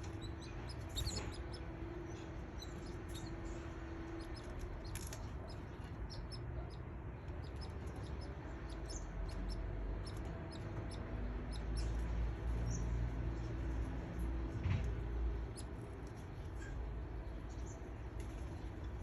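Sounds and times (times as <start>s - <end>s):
low steady rumble: 0.0s - 19.0s
young canaries peeping: 0.0s - 19.0s.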